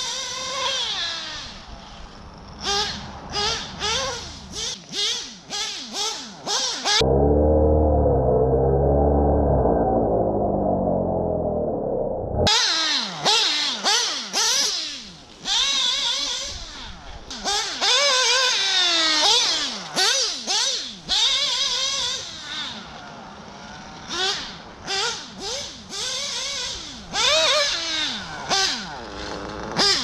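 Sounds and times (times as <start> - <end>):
rc car engine revving: 0.0 - 30.0.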